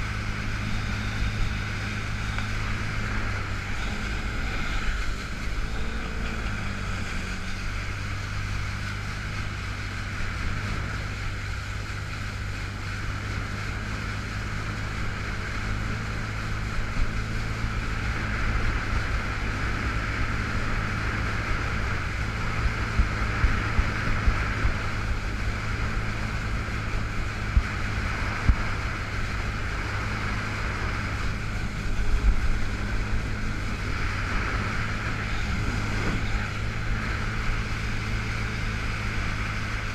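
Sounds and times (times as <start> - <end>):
jet ski engine running: 0.0 - 39.9
rushing water: 0.0 - 39.9
rushing wind: 0.0 - 39.9.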